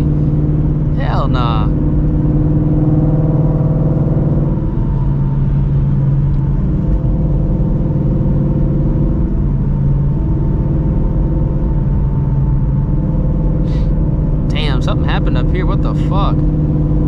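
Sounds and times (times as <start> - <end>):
car exhaust drone: 0.0 - 17.0.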